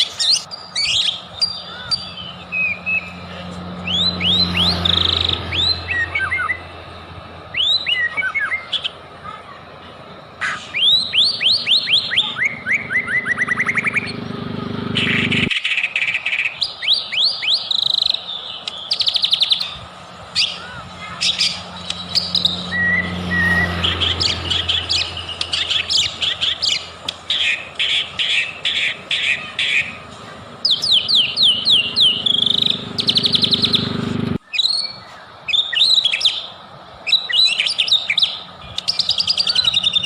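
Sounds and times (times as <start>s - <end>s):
songbird singing whistled song: 0.0s - 3.2s, 3.8s - 6.7s, 7.5s - 9.0s, 10.4s - 14.2s, 15.0s - 30.0s, 30.6s - 40.0s.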